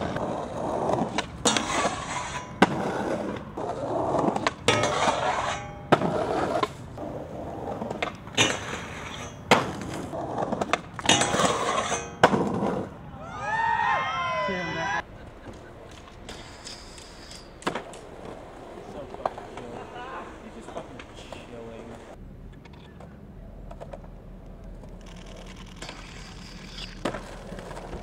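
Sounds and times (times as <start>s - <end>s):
skateboard clacking on ground and rail: 0.0s - 12.9s, 15.5s - 28.0s
skateboard wheels rolling on concrete: 0.0s - 28.0s.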